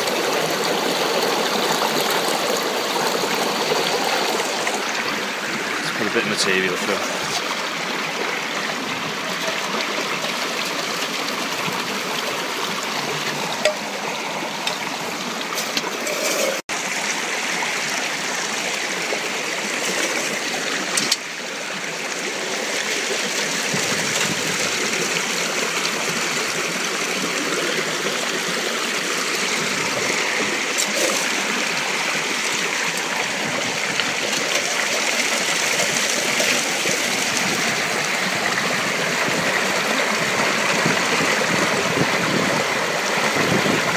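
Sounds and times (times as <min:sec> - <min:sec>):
stream water flowing: 0:00.0 - 0:43.9.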